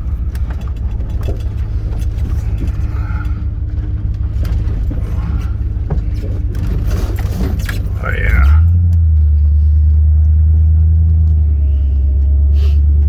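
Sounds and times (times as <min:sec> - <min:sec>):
knocks and rattles: 0:00.0 - 0:11.7
vehicle engine rumbling: 0:00.0 - 0:13.0.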